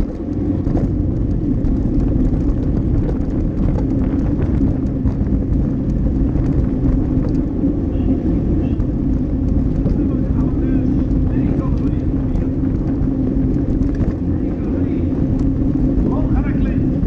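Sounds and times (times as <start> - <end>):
bicycle tyres on road: 0.0 - 17.0
wind buffeting microphone: 0.0 - 17.0.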